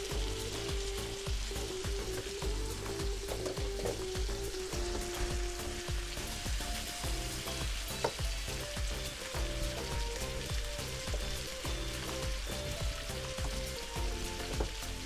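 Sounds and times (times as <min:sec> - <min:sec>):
quiet background music: 0:00.0 - 0:15.0
rice sizzling in oil: 0:00.0 - 0:15.0.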